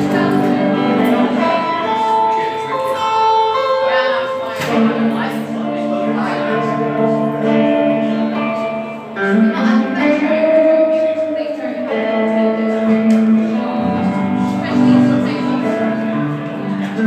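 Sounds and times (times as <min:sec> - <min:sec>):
electric guitar blues chords: 0:00.0 - 0:17.0.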